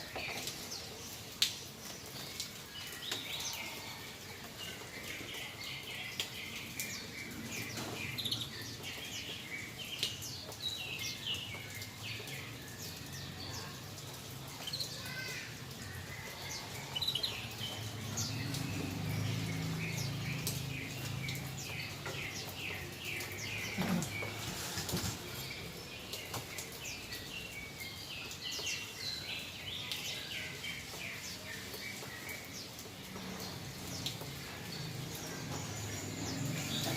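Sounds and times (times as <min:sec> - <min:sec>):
constant hiss: 0:00.0 - 0:36.9.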